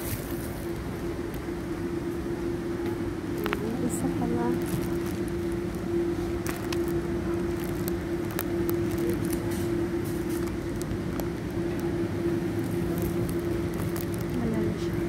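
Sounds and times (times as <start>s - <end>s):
low rumble: 0.0s - 15.0s
supermarket background hum: 0.0s - 15.0s.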